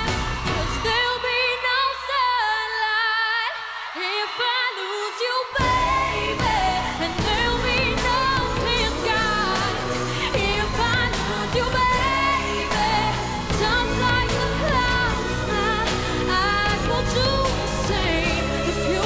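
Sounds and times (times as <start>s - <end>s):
woman singing a pop ballad: 0.0s - 19.0s.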